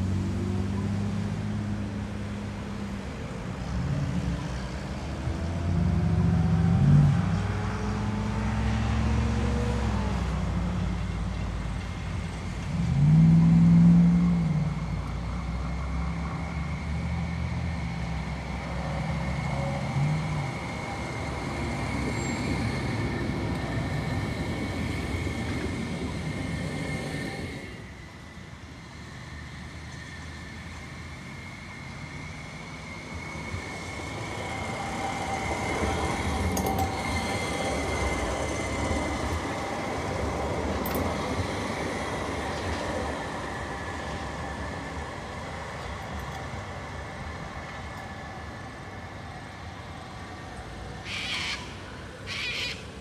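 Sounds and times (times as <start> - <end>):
cars passing: 0.0 - 53.0
tram rolling past with whine: 0.0 - 53.0.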